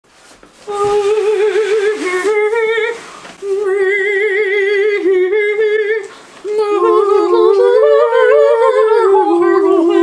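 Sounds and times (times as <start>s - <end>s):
woman singing held notes: 0.6s - 10.0s.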